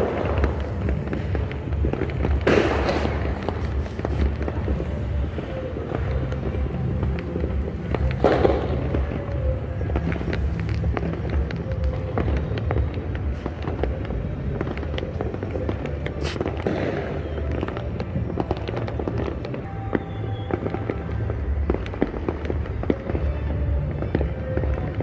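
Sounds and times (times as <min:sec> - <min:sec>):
fireworks cracking and banging: 0:00.0 - 0:25.0
music playing: 0:00.0 - 0:25.0.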